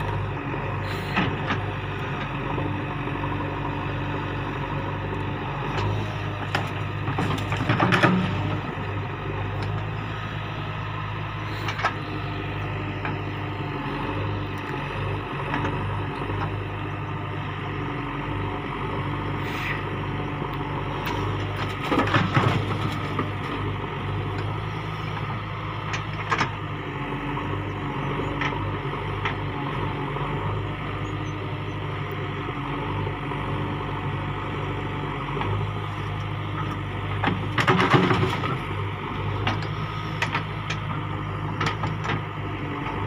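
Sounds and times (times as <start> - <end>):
heavy diesel engine running: 0.0 - 43.0
soil scraping and crunching: 0.0 - 43.0.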